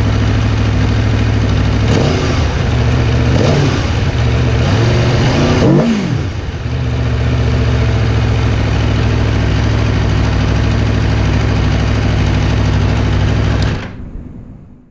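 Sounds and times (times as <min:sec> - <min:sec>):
motorcycle engine idling: 0:00.0 - 0:14.1.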